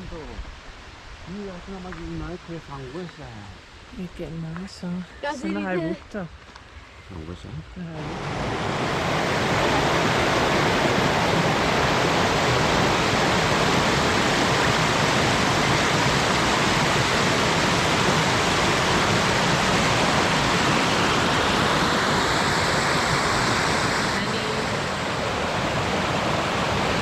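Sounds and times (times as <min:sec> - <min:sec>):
water rushing: 0:00.0 - 0:06.2, 0:07.3 - 0:27.0.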